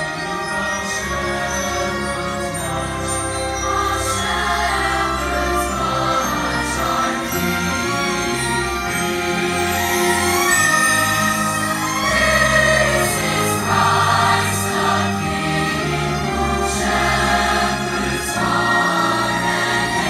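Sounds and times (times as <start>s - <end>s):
choir singing a carol: 0.0s - 20.0s
orchestra playing: 0.0s - 20.0s.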